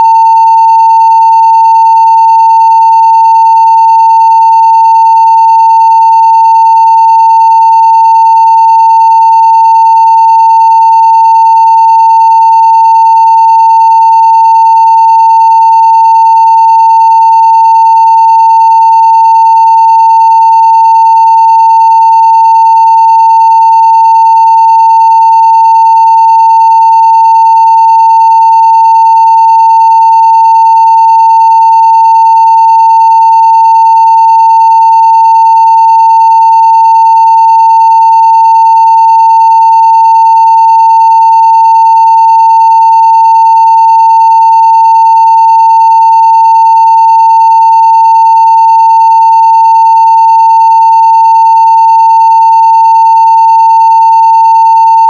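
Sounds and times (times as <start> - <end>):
sine-wave test tone: 0.0 - 55.0.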